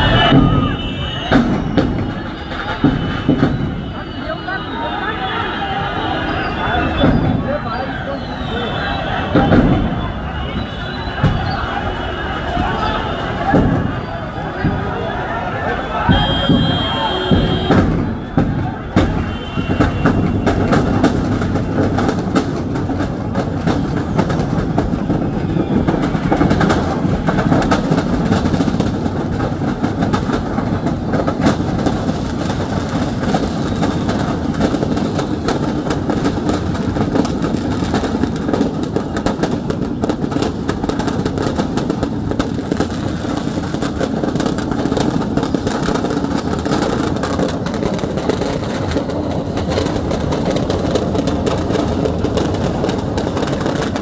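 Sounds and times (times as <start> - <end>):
firecrackers crackling: 0.0 - 54.0
fire rumbling: 5.8 - 54.0.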